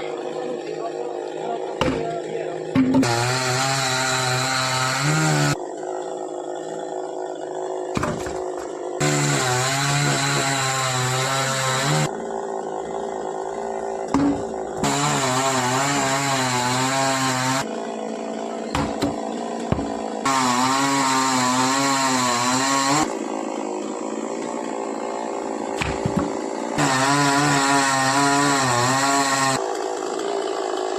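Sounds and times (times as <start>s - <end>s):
chainsaw revving and cutting: 0.0s - 30.9s.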